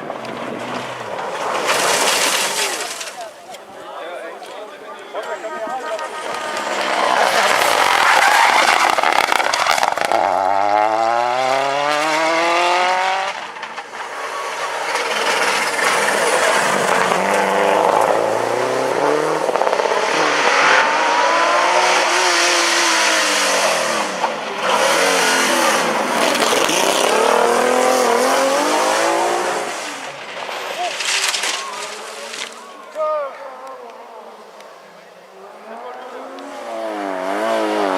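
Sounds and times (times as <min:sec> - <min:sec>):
rally car engines at full throttle: 0:00.0 - 0:03.5, 0:05.1 - 0:37.9.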